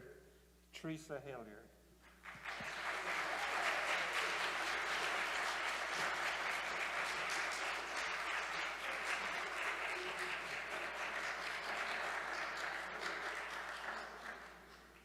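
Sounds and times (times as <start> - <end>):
congregation applauding: 2.1 - 15.0.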